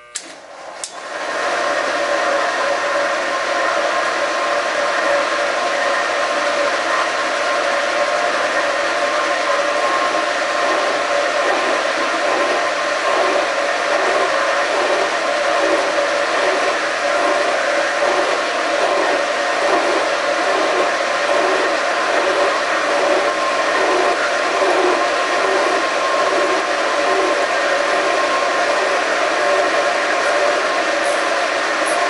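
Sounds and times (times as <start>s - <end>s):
boring mill mechanical drone: 0.0s - 32.0s.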